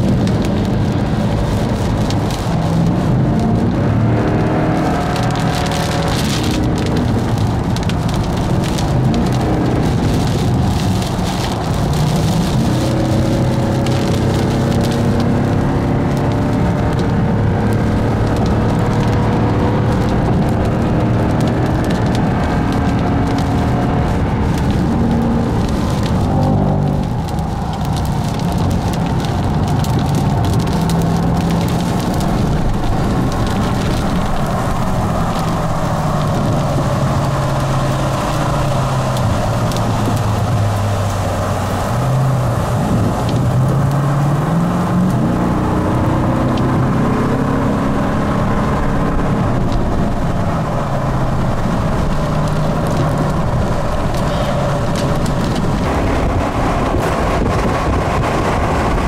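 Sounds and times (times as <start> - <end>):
car engine hum: 0.0 - 59.0
rain pattering on windshield: 0.0 - 59.0
road and wind noise: 0.0 - 59.0.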